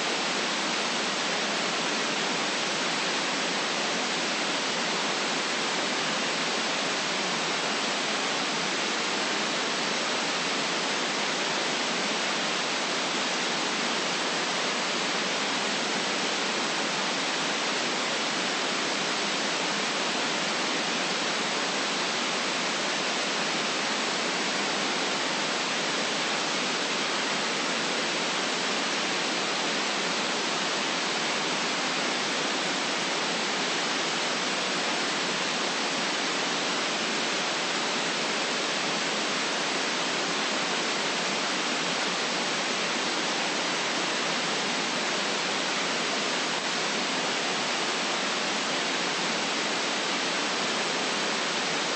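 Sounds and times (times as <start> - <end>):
white noise hiss: 0.0 - 51.9.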